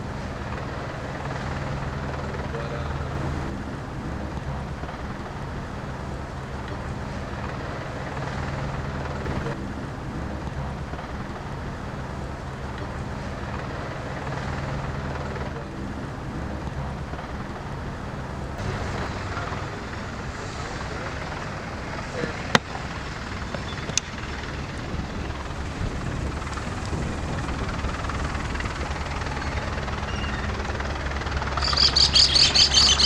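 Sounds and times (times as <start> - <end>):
helicopter engine and rotor drone: 0.0 - 33.0.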